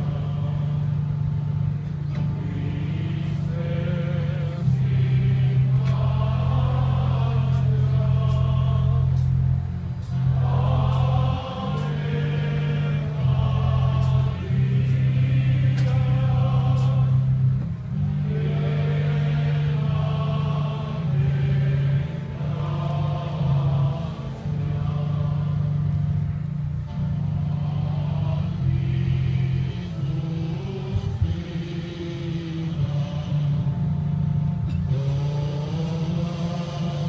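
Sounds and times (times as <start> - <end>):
choir singing a hymn: 0.0 - 37.0.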